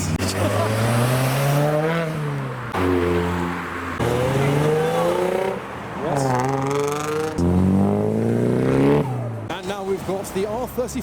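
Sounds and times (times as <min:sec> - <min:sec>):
car engine accelerating hard: 0:00.0 - 0:09.5.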